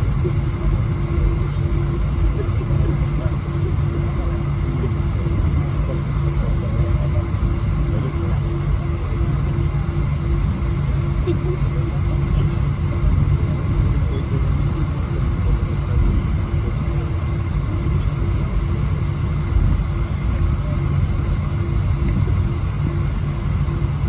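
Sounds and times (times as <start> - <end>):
airliner cabin engine drone: 0.0 - 24.0.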